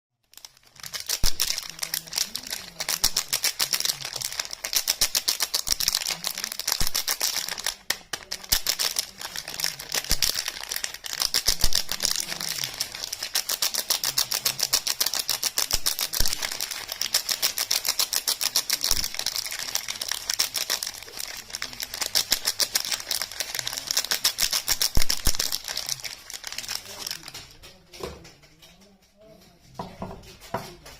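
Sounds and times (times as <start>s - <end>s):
rapid crisp clicking of soap packaging: 0.3s - 28.8s.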